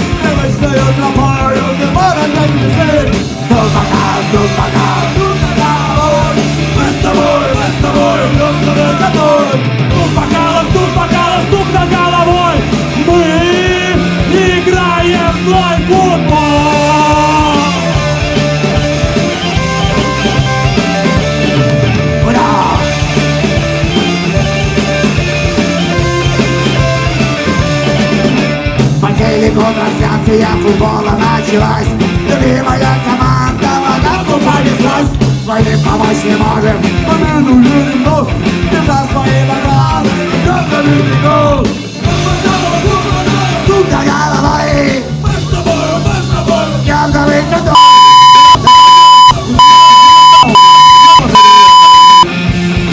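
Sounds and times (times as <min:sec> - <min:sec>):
live punk rock band: 0:00.0 - 0:52.9.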